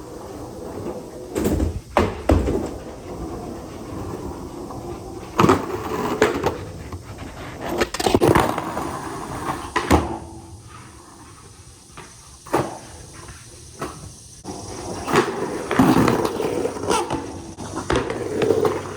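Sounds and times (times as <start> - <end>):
skateboard clacks and knocks: 0.0 - 10.6, 12.5 - 18.9
skateboard wheels rolling on concrete: 0.0 - 18.9.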